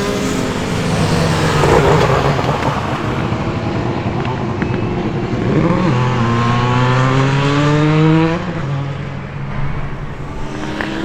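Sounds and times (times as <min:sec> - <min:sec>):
rotary motorcycle engine revving: 0:00.0 - 0:11.0.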